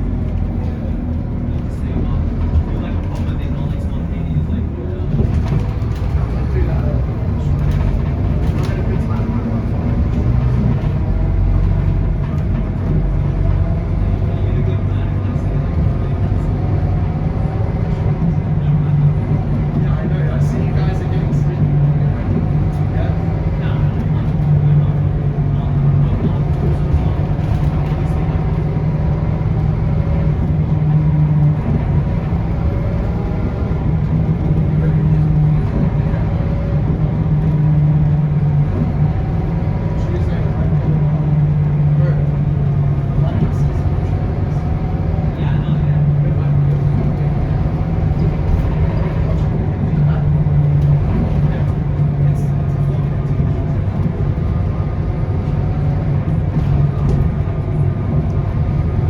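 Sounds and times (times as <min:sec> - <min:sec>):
bus diesel engine drone: 0:00.0 - 0:59.0
tyre and road noise: 0:00.0 - 0:59.0.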